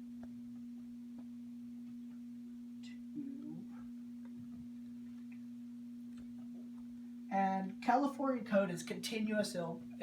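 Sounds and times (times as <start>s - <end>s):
steady low-pitched hum: 0.0s - 10.0s.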